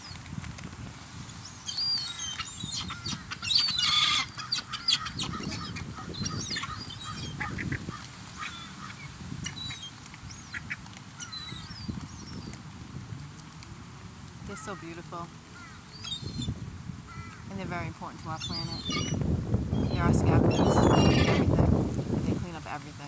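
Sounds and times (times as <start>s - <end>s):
gulls calling: 1.4s - 12.6s, 14.4s - 21.8s.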